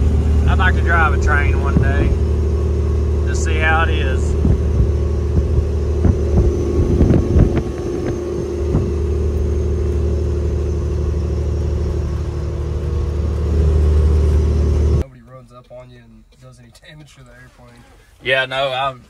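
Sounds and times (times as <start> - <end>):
diesel truck engine droning: 0.0 - 15.6
sharp clicks and rattles: 0.5 - 17.4.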